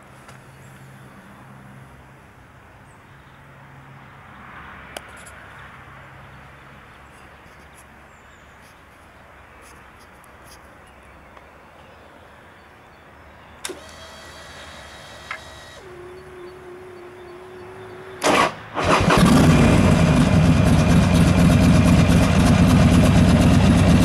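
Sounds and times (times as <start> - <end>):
faint outdoor background noise: 0.0 - 24.0.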